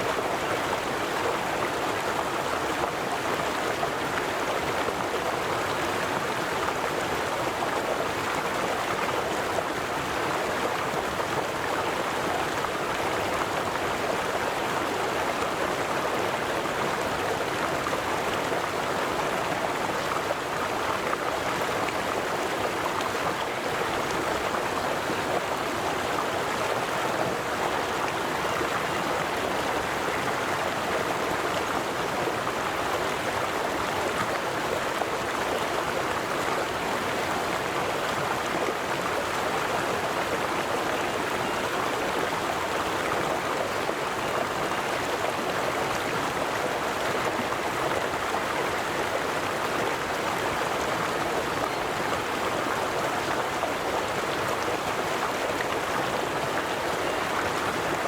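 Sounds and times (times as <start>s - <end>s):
river flowing over stones: 0.0s - 58.0s.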